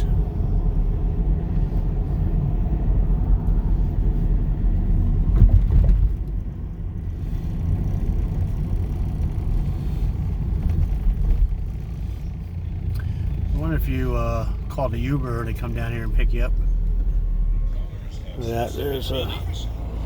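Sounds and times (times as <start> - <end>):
van road and engine rumble: 0.0 - 20.0.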